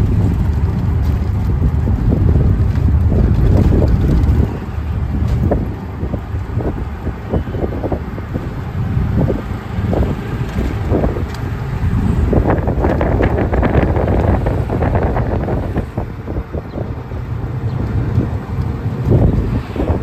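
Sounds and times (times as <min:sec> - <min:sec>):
vehicle road noise: 0:00.0 - 0:20.0
wind buffeting microphone: 0:00.0 - 0:20.0.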